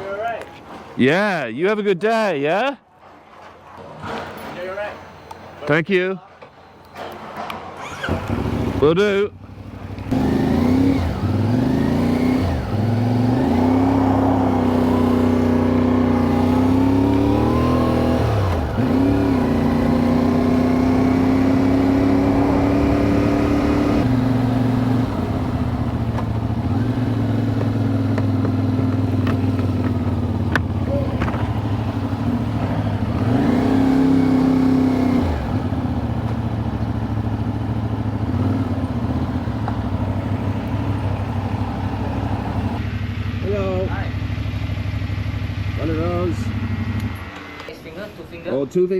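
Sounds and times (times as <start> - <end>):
motorcycle engine revving: 7.8 - 47.7.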